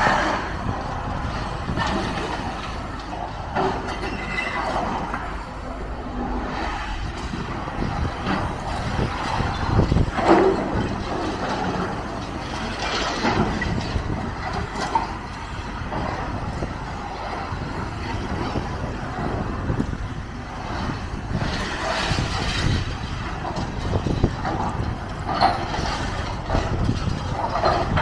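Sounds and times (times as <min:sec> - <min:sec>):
rubble scraping and clattering: 0:00.0 - 0:05.5, 0:06.1 - 0:28.0.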